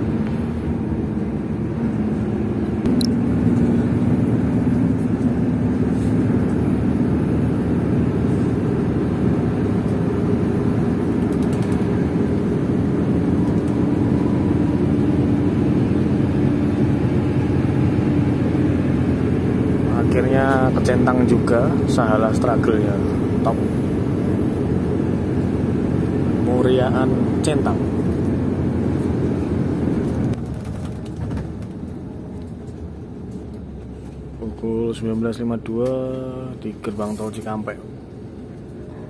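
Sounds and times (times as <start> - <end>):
coach engine accelerating: 0.0 - 39.0
road noise: 0.0 - 39.0.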